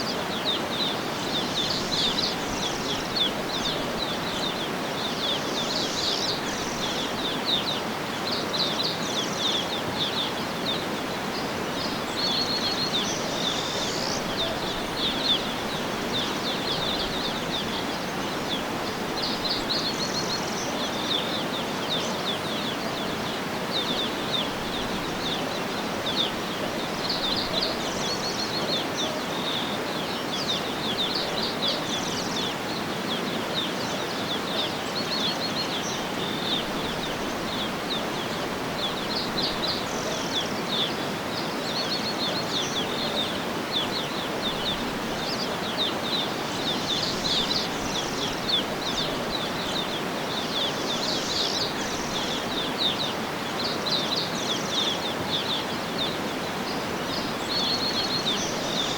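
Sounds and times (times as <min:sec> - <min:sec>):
outdoor background hiss: 0:00.0 - 0:58.9
small birds chirping: 0:00.0 - 0:58.9.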